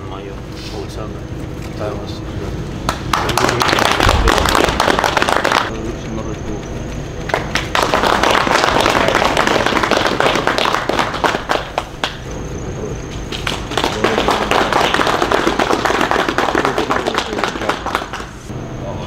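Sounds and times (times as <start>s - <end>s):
crowd applauding: 2.9s - 18.5s.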